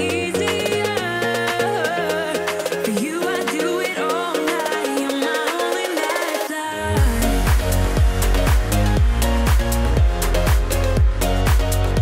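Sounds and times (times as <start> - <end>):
background music with percussion: 0.0 - 12.0.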